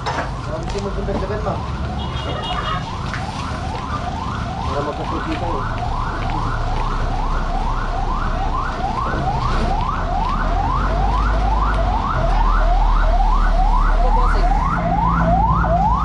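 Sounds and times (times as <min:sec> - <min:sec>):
electronic siren yelping: 0:01.4 - 0:16.0.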